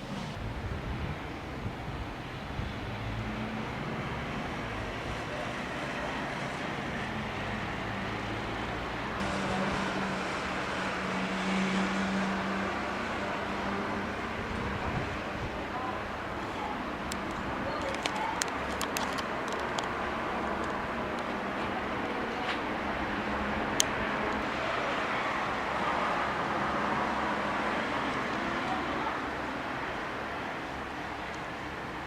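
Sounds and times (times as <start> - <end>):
wash of noise: 0.0 - 18.6, 19.2 - 32.0
engine hum: 0.0 - 32.0.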